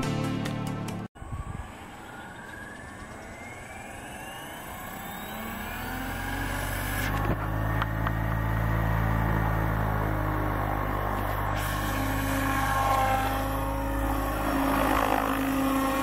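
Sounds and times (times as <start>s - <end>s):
rc helicopter motor whine: 1.2s - 16.0s.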